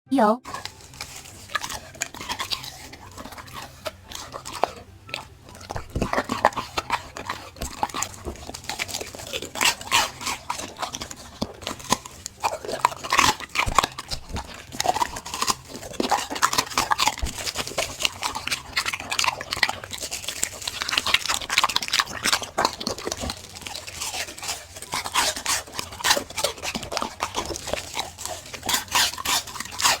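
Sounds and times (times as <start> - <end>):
dog chewing and crunching food: 0.4 - 30.0.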